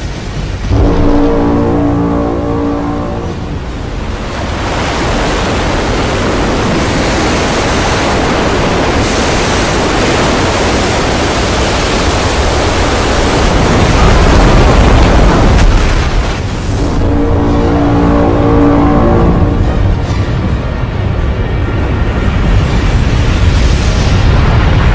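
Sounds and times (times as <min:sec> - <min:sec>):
heavy surf crashing: 0:00.0 - 0:24.9.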